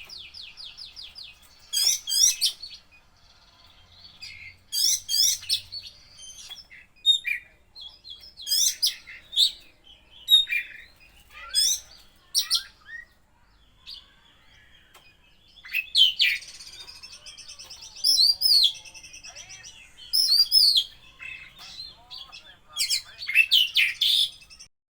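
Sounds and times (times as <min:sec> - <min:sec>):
bird singing varied song: 0:00.0 - 0:24.7.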